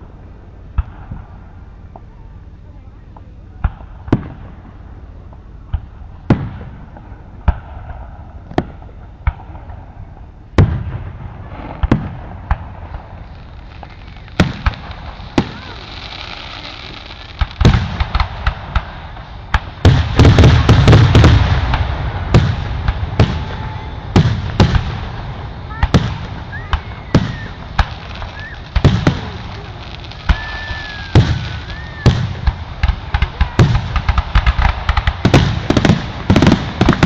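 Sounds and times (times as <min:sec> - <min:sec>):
fireworks bangs: 0:03.1 - 0:37.0.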